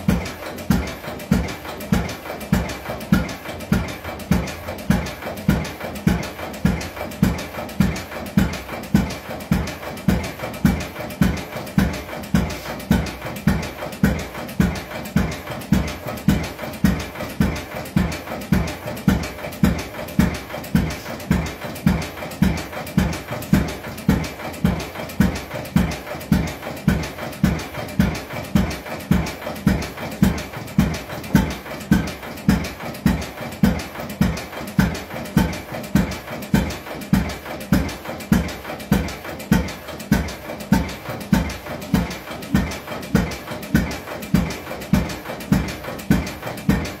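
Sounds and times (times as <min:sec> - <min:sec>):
stationary engine exhaust puffing: 0:00.0 - 0:47.0.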